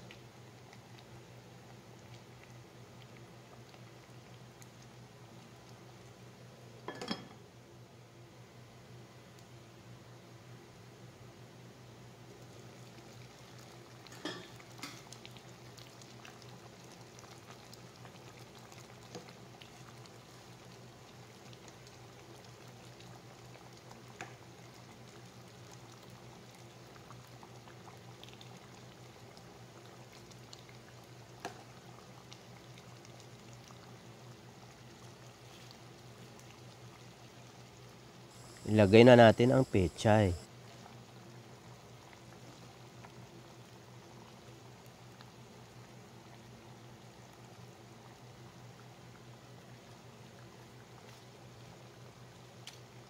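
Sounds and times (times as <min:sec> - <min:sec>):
stew bubbling in a pot: 0:00.0 - 0:07.5, 0:11.4 - 0:53.0.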